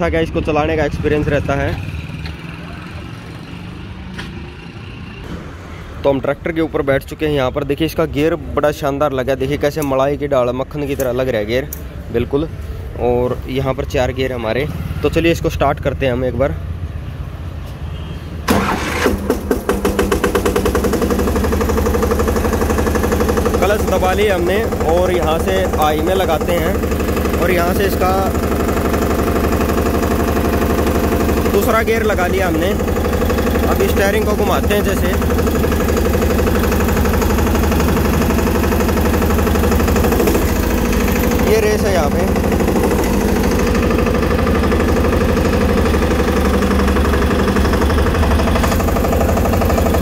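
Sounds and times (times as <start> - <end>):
diesel engine starting and idling: 0.0 - 16.9, 18.4 - 50.0.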